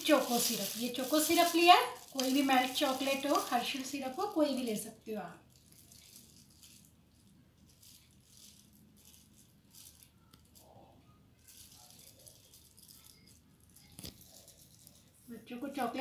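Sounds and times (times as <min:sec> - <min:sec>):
faint crackling handling rustles: 0:00.0 - 0:16.0.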